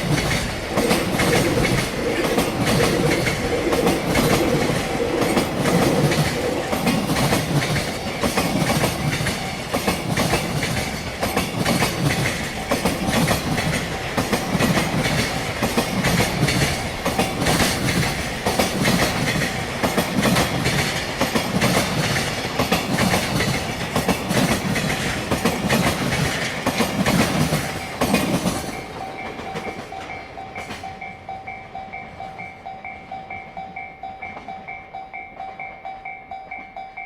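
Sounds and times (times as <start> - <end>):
train wheels clattering over joints: 0.0 - 31.1
crossing warning bell dinging: 0.0 - 37.0.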